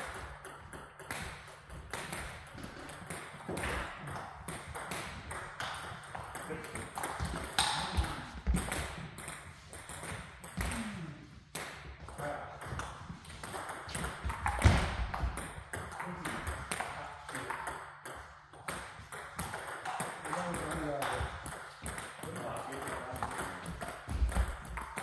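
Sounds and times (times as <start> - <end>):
table tennis balls clicking: 0.0 - 10.8, 12.6 - 25.0.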